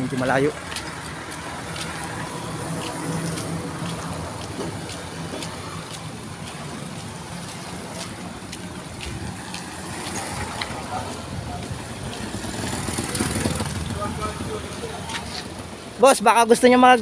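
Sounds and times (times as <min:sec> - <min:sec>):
footsteps on pavement: 0:00.0 - 0:15.8
vehicle engine hum: 0:00.0 - 0:16.0
steady street hiss: 0:00.0 - 0:17.0.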